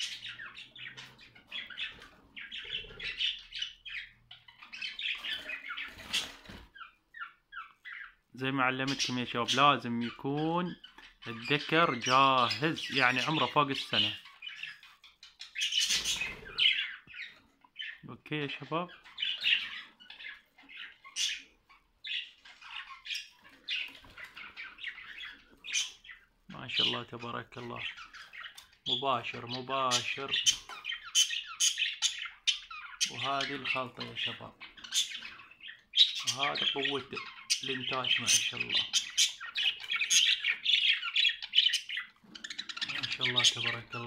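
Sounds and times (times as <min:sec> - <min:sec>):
budgerigars chattering: 0:00.0 - 0:44.0.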